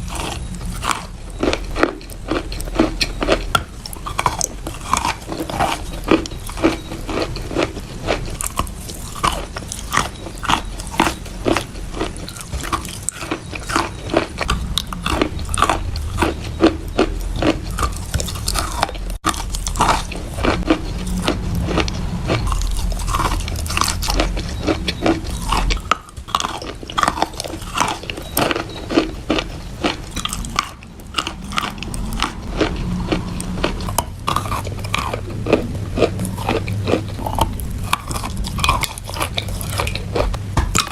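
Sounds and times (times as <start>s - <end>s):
chewing crunchy chalk: 0.0s - 40.9s.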